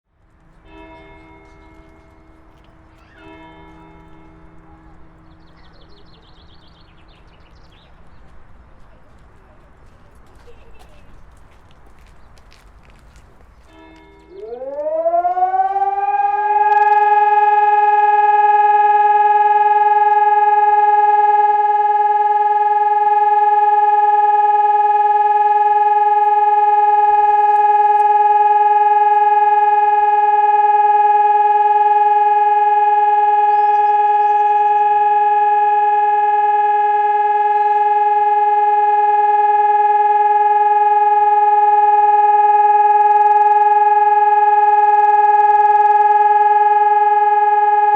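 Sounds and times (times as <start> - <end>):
civil defence siren: 0.2 - 8.0, 12.0 - 47.9.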